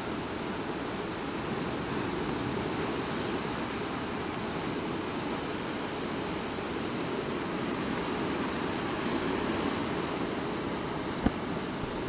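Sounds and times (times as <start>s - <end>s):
sea surf rushing: 0.0s - 12.0s
wind: 0.0s - 12.0s.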